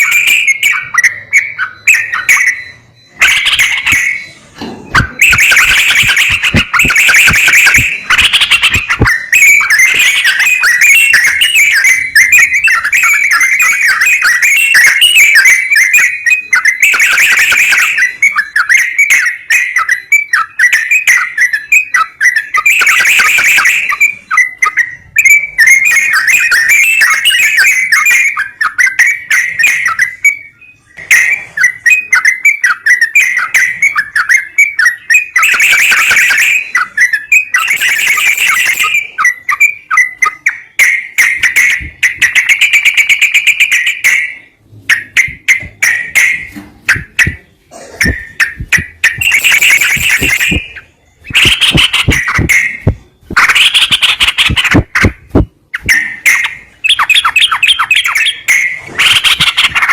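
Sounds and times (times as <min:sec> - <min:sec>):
harsh bird chatter: 0:00.0 - 0:30.3, 0:31.1 - 0:59.9
bird song of quick whistled notes: 0:00.0 - 0:59.9.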